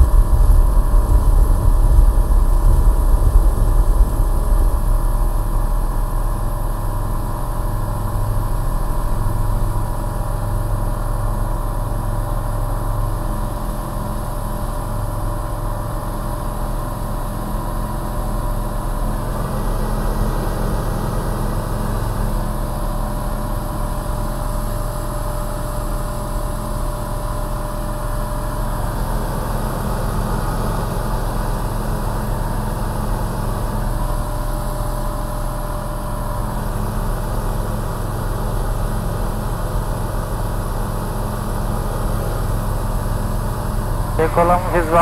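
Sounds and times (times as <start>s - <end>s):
propeller aircraft engine drone: 0.0s - 45.0s.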